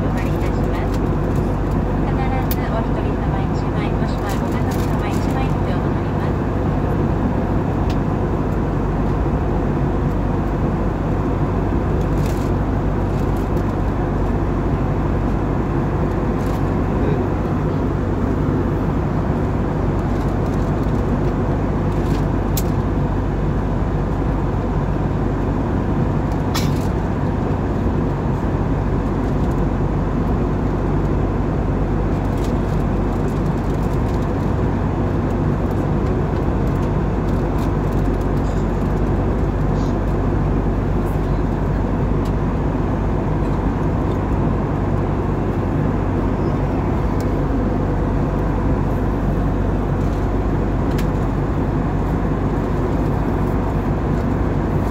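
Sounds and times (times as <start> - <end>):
airliner cabin drone: 0.0 - 54.9.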